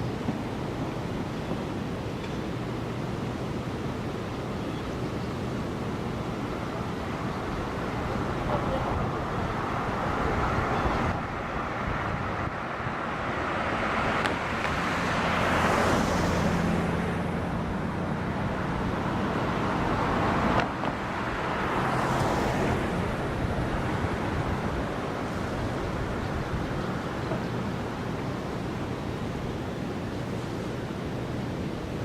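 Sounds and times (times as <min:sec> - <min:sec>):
road traffic on a bridge: 0:00.0 - 0:32.0
vehicle engine and tyre noise: 0:00.0 - 0:32.0
wind noise: 0:00.0 - 0:32.0.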